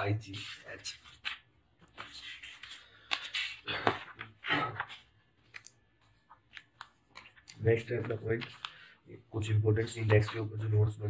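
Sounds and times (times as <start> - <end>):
paper rustling: 0.3 - 9.0, 9.7 - 11.0.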